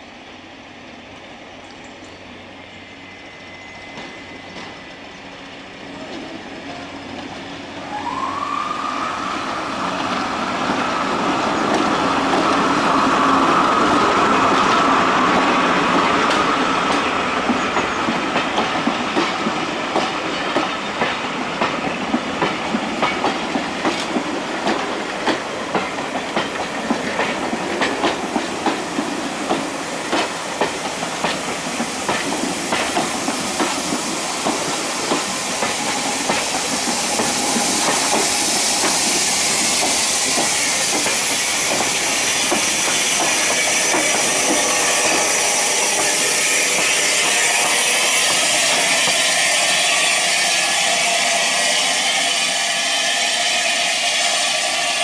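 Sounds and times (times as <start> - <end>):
locomotive high whine: 0.0 - 18.8, 23.5 - 55.0
steam hissing: 2.2 - 55.0
train wheels clickety-clack: 3.7 - 7.6, 9.9 - 55.0.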